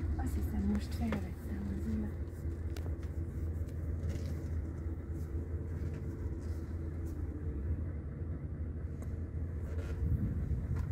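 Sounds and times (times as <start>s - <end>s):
diesel truck engine rumbling: 0.0s - 10.9s.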